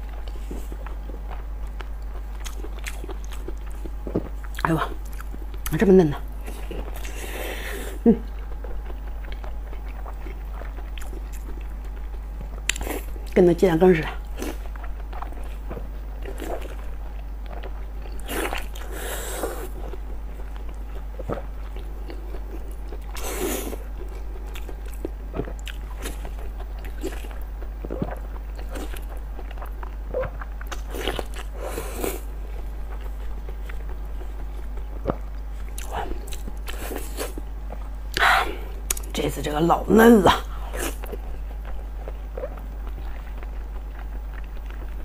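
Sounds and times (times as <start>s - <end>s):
wet biting and chewing: 0.0s - 5.8s, 8.2s - 13.4s, 14.1s - 39.1s, 40.3s - 45.0s.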